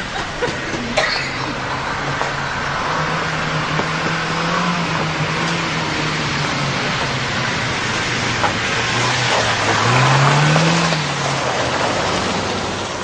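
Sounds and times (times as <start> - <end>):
car engine revving: 0.0 - 13.0
cars driving past: 0.0 - 13.0.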